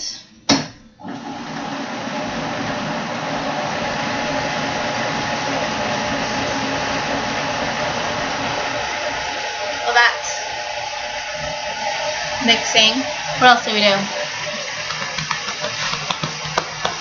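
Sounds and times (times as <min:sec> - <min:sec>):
electric blender running: 0:01.0 - 0:17.0.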